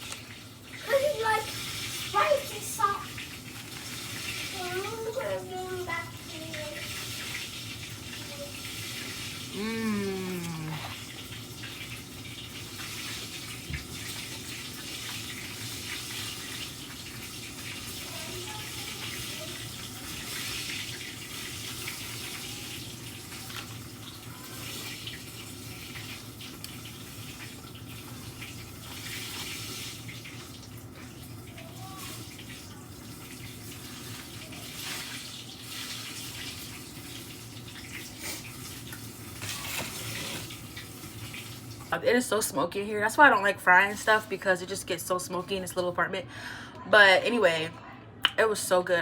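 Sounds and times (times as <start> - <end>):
chicken frying in oil: 0.0 - 46.8.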